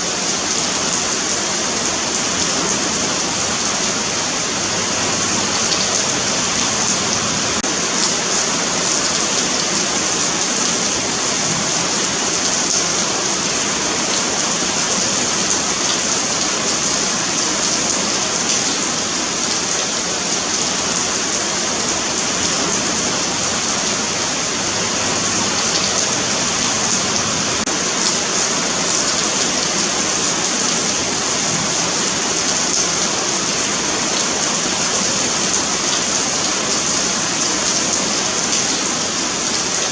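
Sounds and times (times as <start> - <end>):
rain on pavement: 0.0 - 39.9.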